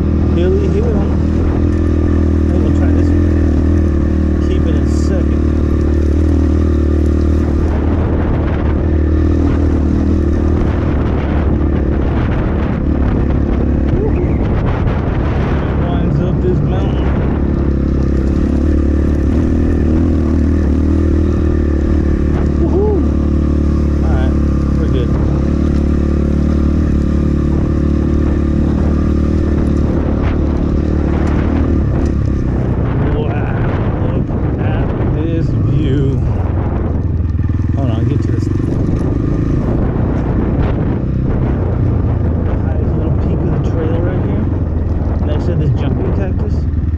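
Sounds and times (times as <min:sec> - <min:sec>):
dirt bike engine running: 0:00.0 - 0:46.9
wind noise on microphone: 0:00.0 - 0:46.9.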